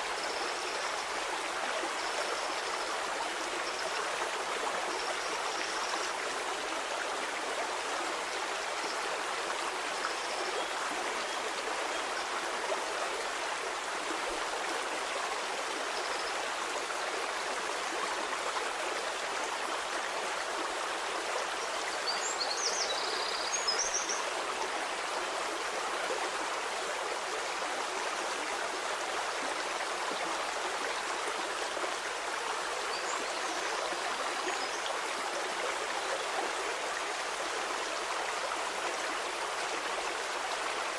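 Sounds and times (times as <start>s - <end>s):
stream flowing water: 0.0s - 40.9s.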